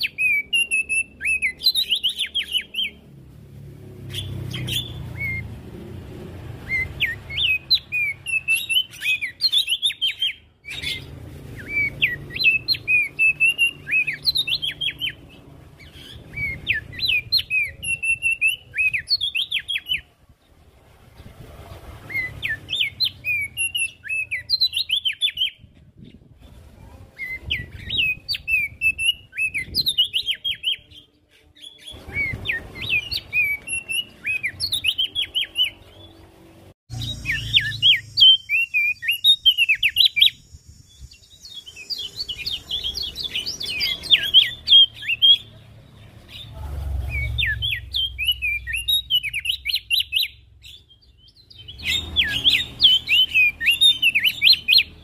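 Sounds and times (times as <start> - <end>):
bird chirping: 0.0 - 26.5, 27.1 - 55.0.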